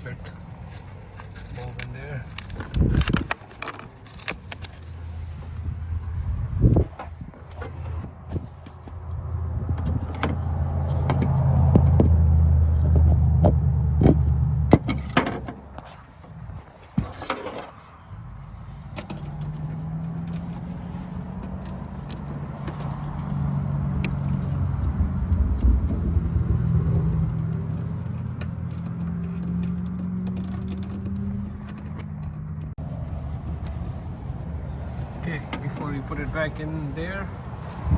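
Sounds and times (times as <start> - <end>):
vehicle engine humming: 0.0 - 37.9.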